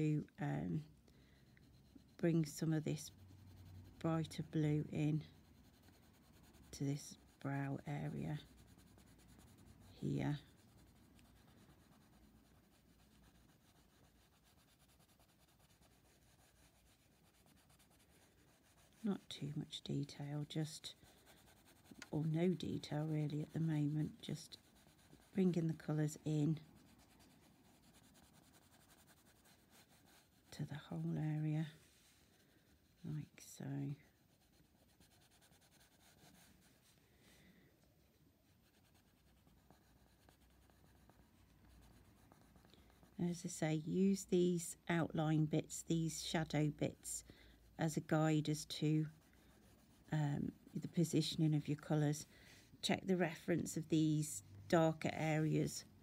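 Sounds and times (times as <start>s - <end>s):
coloured pencil scratching on paper: 0.0s - 37.0s, 38.4s - 55.9s.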